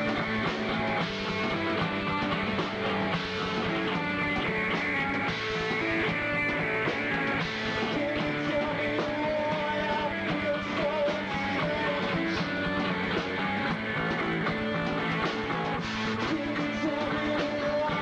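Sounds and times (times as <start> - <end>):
distorted electric guitar: 0.0 - 18.0
rock band playing live: 0.0 - 18.0.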